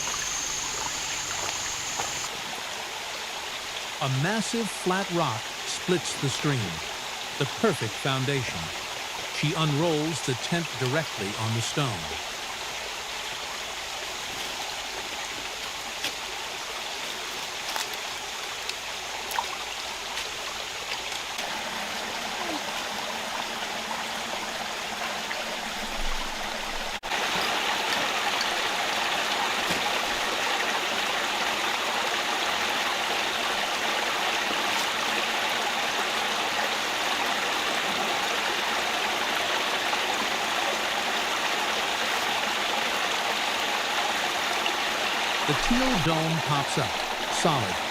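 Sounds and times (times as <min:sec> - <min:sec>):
stream rushing over stones: 0:00.0 - 0:47.9.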